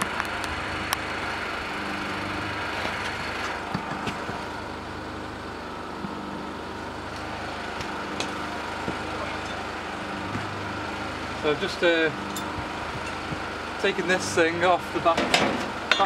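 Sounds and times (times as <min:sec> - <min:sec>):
steady motor hum: 0:00.0 - 0:16.0.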